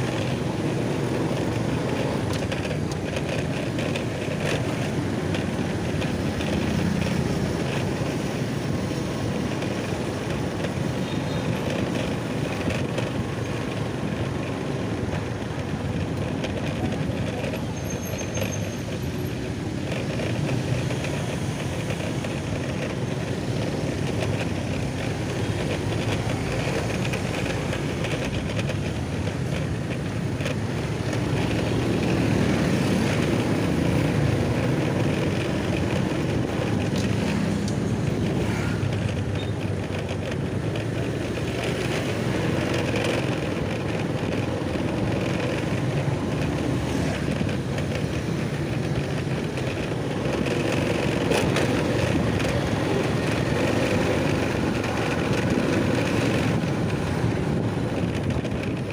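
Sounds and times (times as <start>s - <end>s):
road and wind noise: 0.0s - 58.9s
vehicle engine running: 0.0s - 58.9s.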